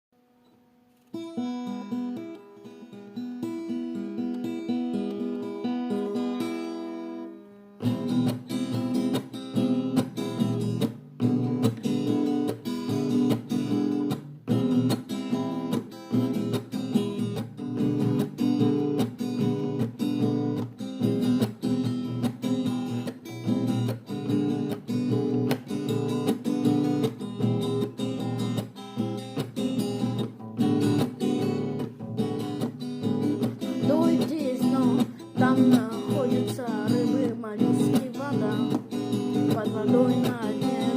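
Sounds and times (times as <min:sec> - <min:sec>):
acoustic guitar strumming chords: 0:00.2 - 0:40.9.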